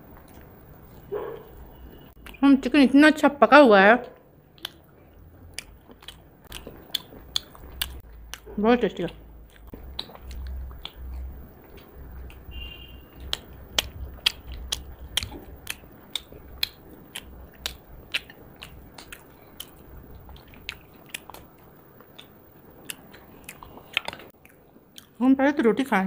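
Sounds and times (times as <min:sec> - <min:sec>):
chewing and lip-smacking: 0:04.5 - 0:25.7.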